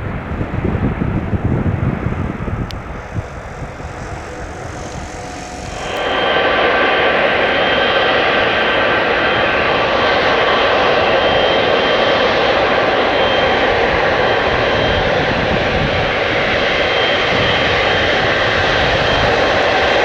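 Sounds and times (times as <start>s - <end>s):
jet engines roaring with fan whine: 0.0s - 20.0s.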